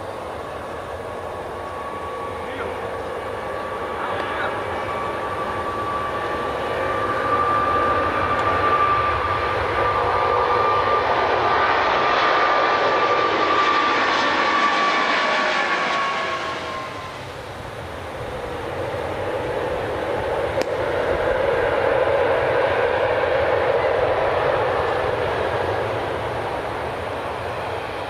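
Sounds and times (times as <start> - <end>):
jet engine whine: 0.0 - 28.0
jet noise rushing: 0.0 - 28.0.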